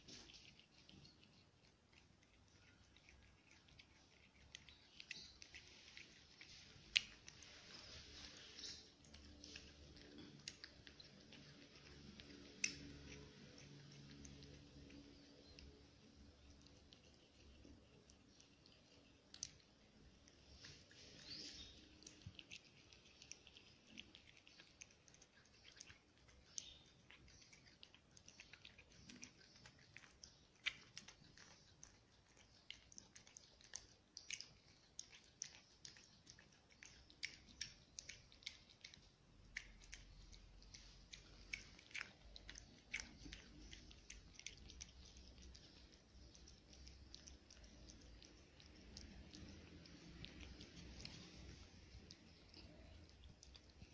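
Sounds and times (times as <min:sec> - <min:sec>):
cat chewing and smacking: 0:00.0 - 0:53.9.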